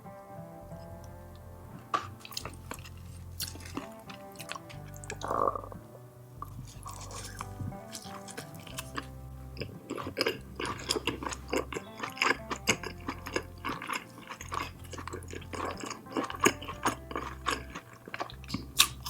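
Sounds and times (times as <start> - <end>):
quiet background music: 0.0 - 19.0
chewing and wet mouth clicks: 1.8 - 5.8, 6.4 - 19.0.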